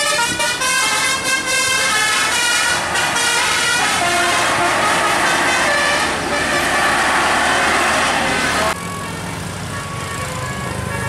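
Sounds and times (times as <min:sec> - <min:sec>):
diesel truck passing: 0:00.0 - 0:11.0
multi-tone vehicle horn tune: 0:00.0 - 0:11.0.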